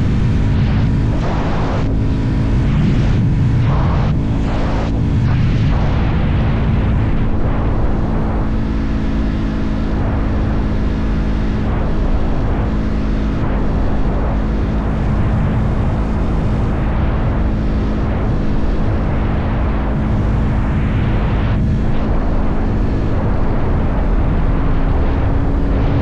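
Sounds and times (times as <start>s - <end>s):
motorcycle engine cruising: 0.0s - 26.0s
wind and road noise: 0.0s - 26.0s.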